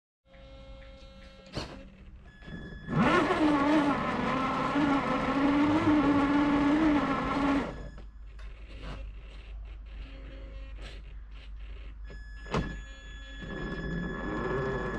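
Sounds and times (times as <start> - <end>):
electric motor whining: 2.4 - 14.9.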